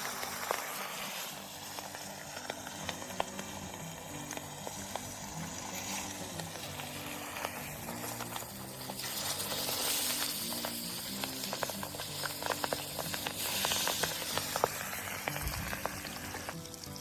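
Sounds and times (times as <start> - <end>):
crackling oil pops: 0.0 - 17.0
fish sizzling in hot oil: 0.0 - 17.0
quiet background music: 0.0 - 17.0.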